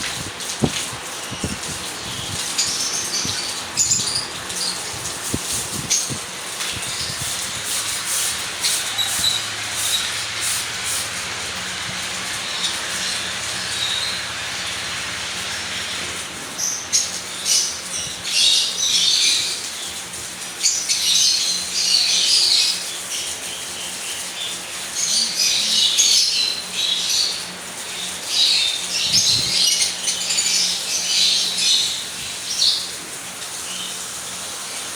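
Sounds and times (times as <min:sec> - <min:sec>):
lovebirds chattering and squawking: 0:00.1 - 0:34.5.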